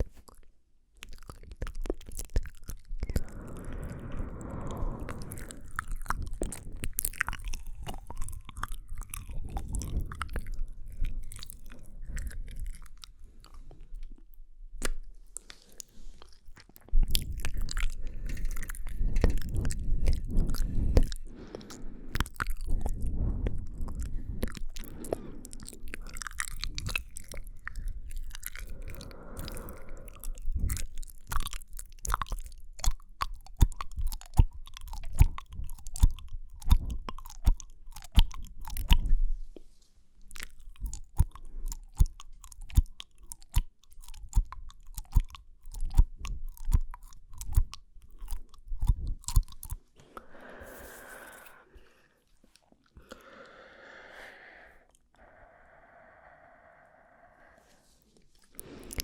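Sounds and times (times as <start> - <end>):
mouth clicks and smacks: 0.0 - 59.0.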